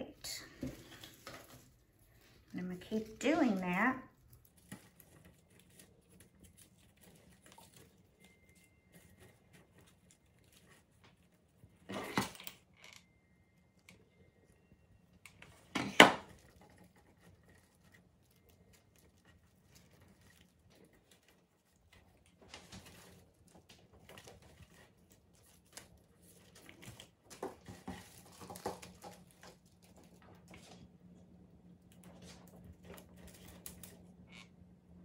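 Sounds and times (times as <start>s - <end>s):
artificial flowers rustling: 0.0s - 34.4s.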